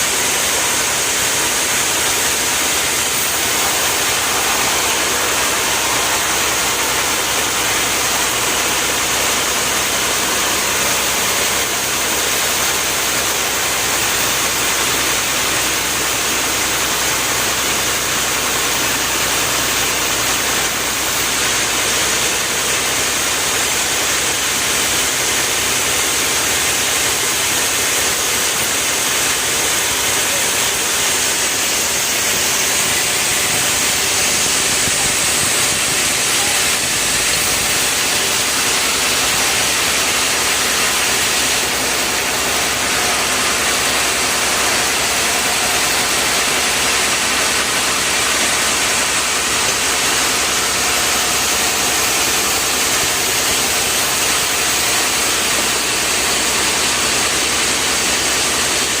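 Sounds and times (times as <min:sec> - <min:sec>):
loud even hiss: 0:00.0 - 0:57.6
engine running: 0:00.0 - 0:59.0.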